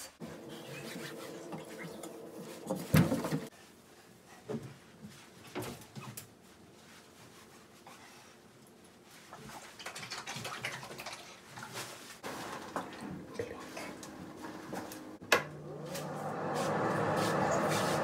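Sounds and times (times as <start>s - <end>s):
sponge rubbing bathtub: 0.1s - 5.4s, 6.0s - 15.0s, 15.8s - 18.0s.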